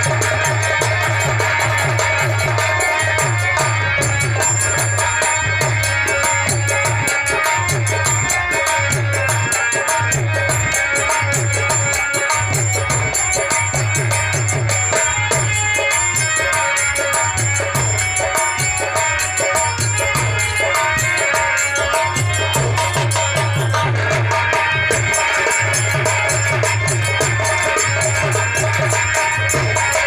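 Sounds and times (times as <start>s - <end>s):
drum beat: 0.0s - 30.0s
harmonium reed notes: 0.0s - 30.0s
jingling rattling percussion: 0.0s - 30.0s.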